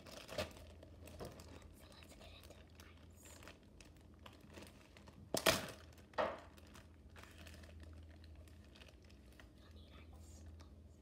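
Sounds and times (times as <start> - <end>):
crinkling and handling noises: 0.0 - 10.9
faint clicks and crackles: 0.0 - 10.9.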